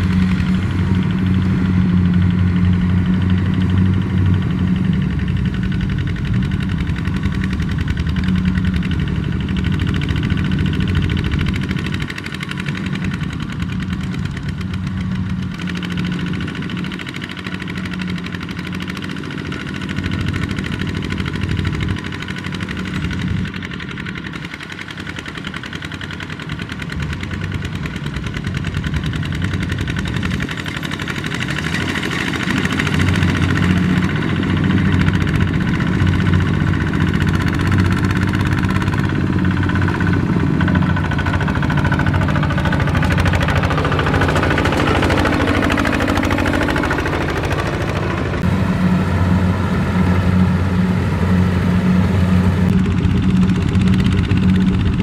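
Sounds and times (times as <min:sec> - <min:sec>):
combine harvester engine: 0:00.0 - 0:55.0
diesel tractor engine under load: 0:00.0 - 0:55.0.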